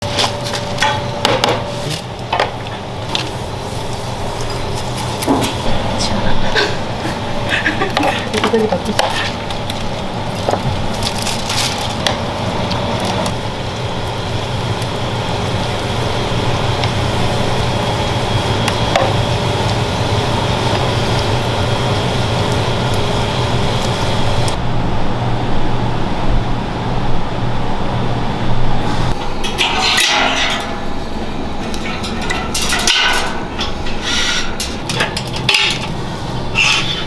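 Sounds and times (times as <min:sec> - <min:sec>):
steady machine hum: 0:00.0 - 0:37.0
wood fire crackling and popping: 0:00.0 - 0:37.0.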